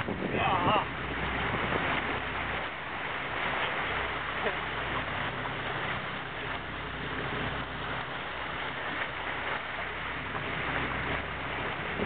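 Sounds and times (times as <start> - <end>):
boat engine hum: 0.0 - 12.0
water rushing in wake: 0.0 - 12.0
wind on microphone: 0.0 - 12.0.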